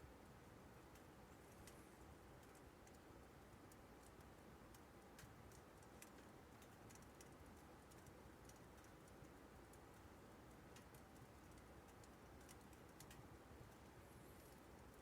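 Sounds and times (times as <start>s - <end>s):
firewood crackling and popping: 0.3s - 15.0s.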